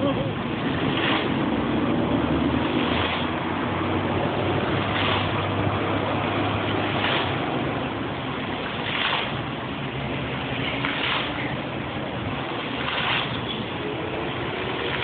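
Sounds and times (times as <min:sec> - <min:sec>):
fountain jets splashing: 0:00.0 - 0:15.0.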